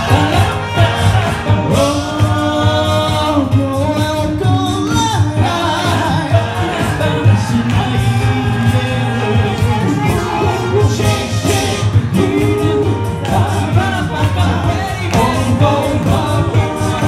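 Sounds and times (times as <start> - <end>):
men singing into microphones: 0.0 - 17.0
recorded backing music: 0.0 - 17.0.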